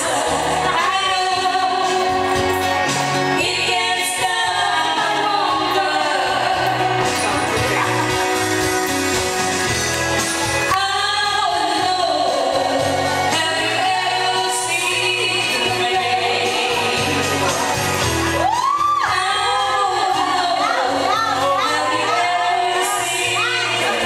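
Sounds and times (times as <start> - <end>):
woman singing into a microphone: 0.0 - 7.9, 10.7 - 17.8, 18.6 - 24.0
karaoke backing track with beat: 0.0 - 24.0.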